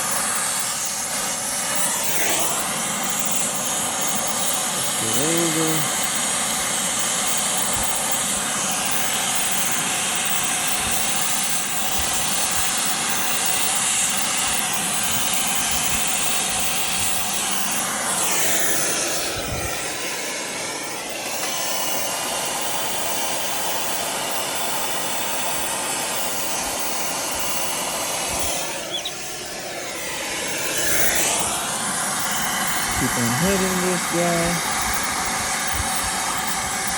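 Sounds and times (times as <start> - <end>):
torch flame hissing: 0.0 - 36.9.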